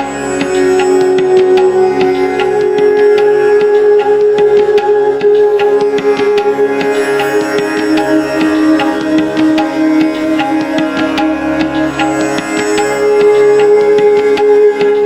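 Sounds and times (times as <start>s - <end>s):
held drone: 0.0s - 15.0s
plucked and drummed notes: 0.0s - 15.0s.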